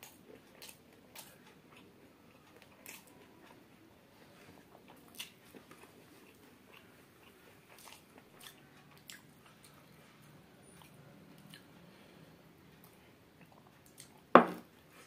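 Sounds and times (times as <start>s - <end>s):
faint chewing: 0.0s - 12.1s, 12.7s - 15.0s.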